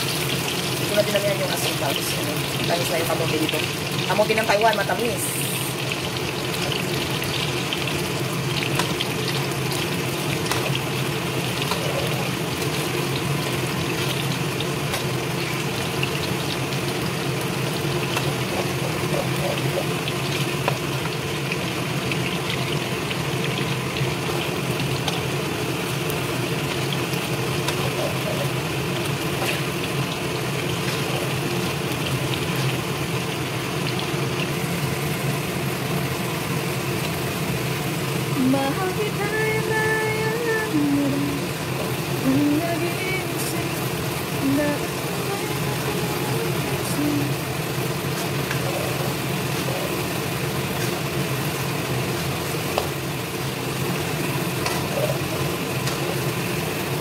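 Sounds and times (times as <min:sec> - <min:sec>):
food deep-frying in oil: 0:00.0 - 0:57.0.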